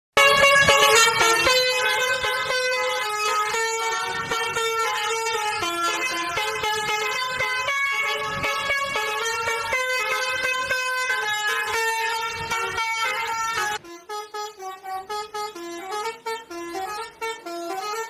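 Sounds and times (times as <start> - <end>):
musical air horn playing a tune: 0.2 - 18.0.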